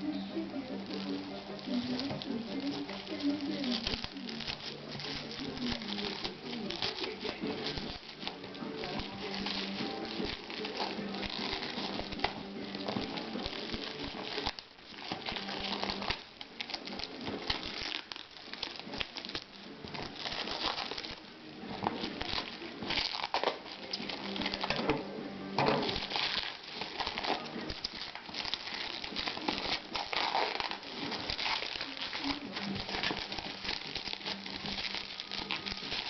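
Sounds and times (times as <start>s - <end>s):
packaging rustling and crinkling: 0.0s - 36.0s.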